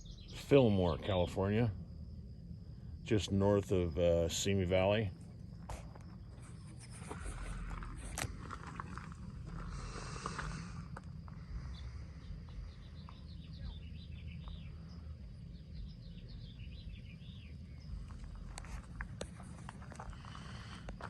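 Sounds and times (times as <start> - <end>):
songbird singing: 0.0 - 21.0
steady low rumble: 0.0 - 21.0.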